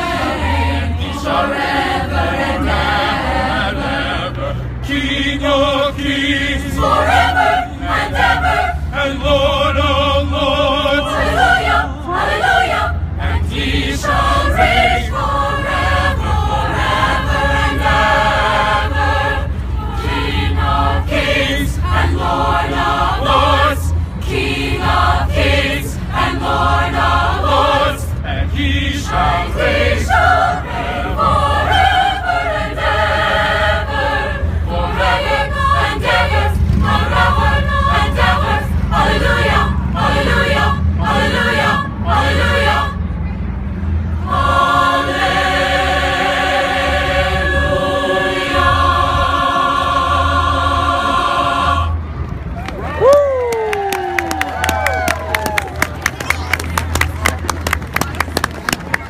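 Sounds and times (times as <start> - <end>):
mixed choir singing: 0.0 - 43.2, 43.8 - 52.6
steady low rumble: 0.0 - 59.0.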